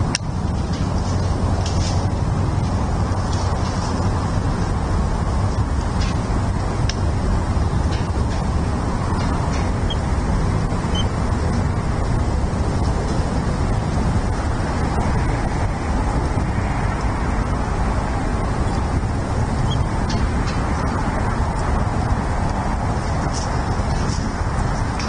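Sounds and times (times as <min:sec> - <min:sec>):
low rumbling outdoor noise: 0:00.0 - 0:25.0.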